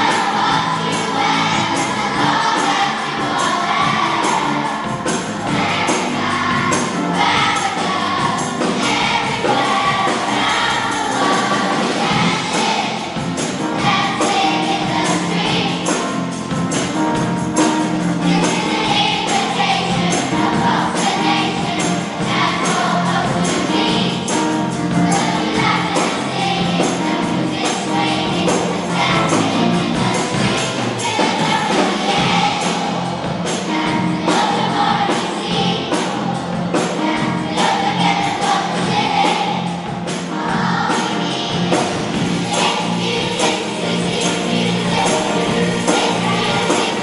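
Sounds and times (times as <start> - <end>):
children's choir singing: 0.0 - 47.0
orchestra accompanying: 0.0 - 47.0.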